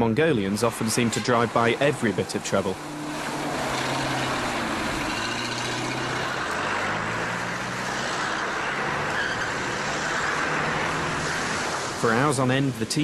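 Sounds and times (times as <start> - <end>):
vehicle engines droning: 0.0 - 13.0
rough noise: 0.2 - 13.0.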